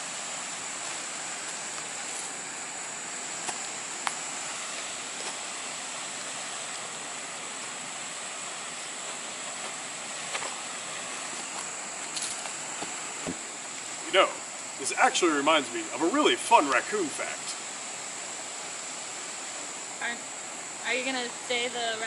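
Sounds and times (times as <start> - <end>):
high-pitched whine: 0.0 - 22.0
outdoor background hiss: 0.0 - 22.0.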